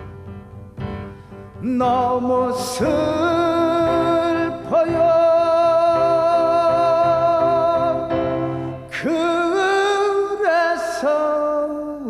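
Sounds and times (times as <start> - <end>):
man singing long high note: 1.6 - 12.0.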